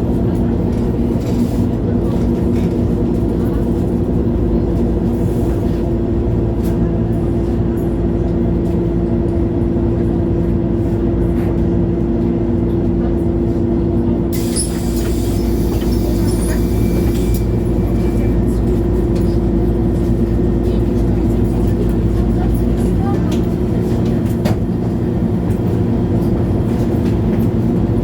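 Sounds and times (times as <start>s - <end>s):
bus diesel engine humming: 0.0s - 28.0s.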